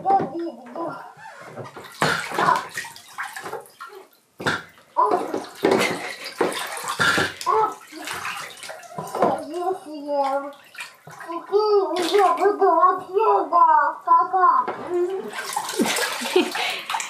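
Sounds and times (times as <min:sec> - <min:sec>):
bathwater splashing: 0:00.0 - 0:17.0.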